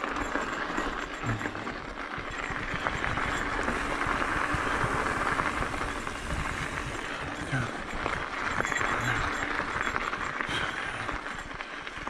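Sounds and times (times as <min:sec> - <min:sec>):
bike tyre rolling on dirt: 0:00.0 - 0:12.0
wind noise: 0:00.0 - 0:12.0.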